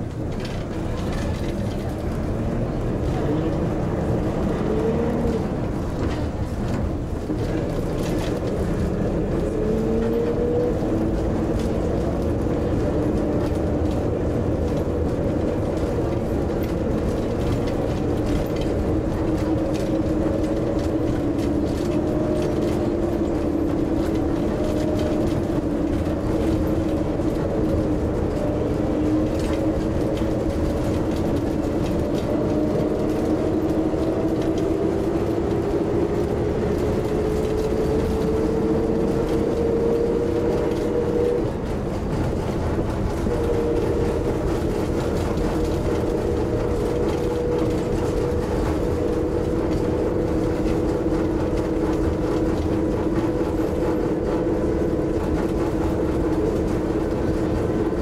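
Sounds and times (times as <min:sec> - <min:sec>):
railbus engine and drive whine: 0:00.0 - 0:58.0
steady rumble: 0:00.0 - 0:58.0.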